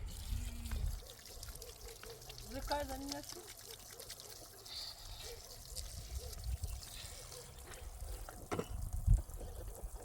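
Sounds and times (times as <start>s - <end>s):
water trickling and pouring: 0.0s - 10.0s.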